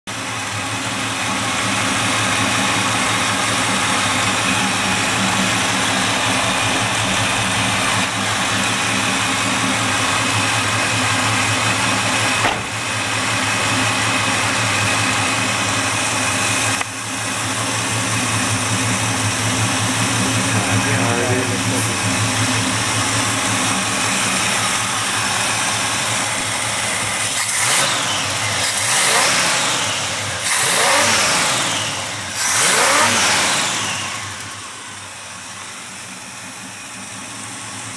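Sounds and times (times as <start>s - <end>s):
car engine idling: 0.1s - 37.9s
engine revving: 1.4s - 35.0s.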